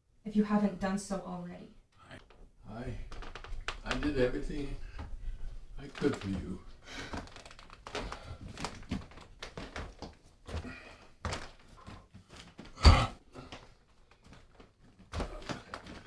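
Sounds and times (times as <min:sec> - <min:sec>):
rustling and small knocks: 0:02.2 - 0:12.8, 0:13.4 - 0:16.0.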